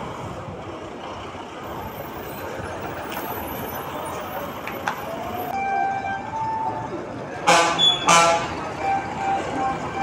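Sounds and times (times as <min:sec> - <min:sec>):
bus engines rumbling: 0:00.0 - 0:10.0
traffic noise: 0:00.0 - 0:10.0.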